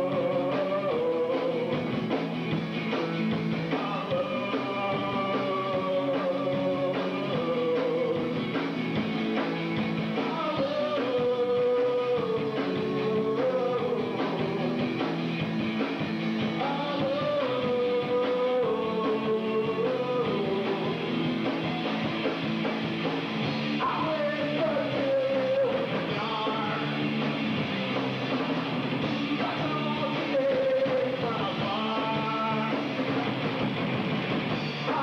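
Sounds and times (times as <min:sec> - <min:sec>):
rock band playing live: 0:00.0 - 0:35.0.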